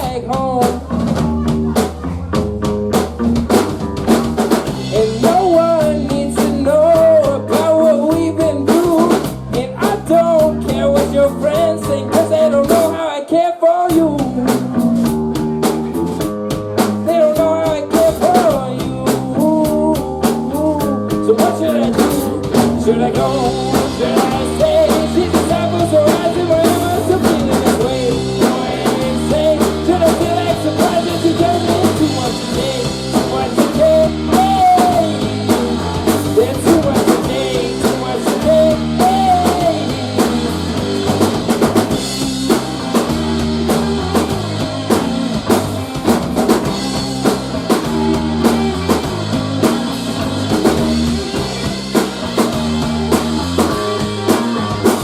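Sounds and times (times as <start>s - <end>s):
drum kit: 0.0s - 13.1s, 13.8s - 55.0s
live rock band playing: 0.0s - 13.2s, 13.8s - 55.0s
bass guitar: 0.0s - 55.0s.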